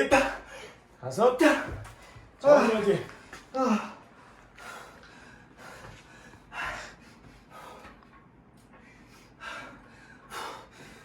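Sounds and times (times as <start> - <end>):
man breathing heavily: 2.1 - 11.0.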